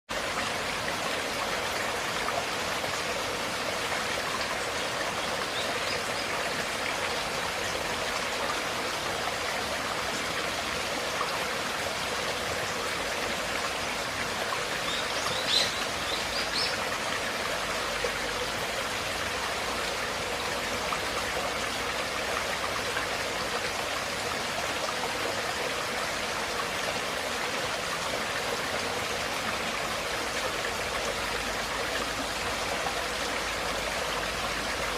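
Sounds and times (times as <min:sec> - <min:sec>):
stream water flowing: 0:00.1 - 0:34.9.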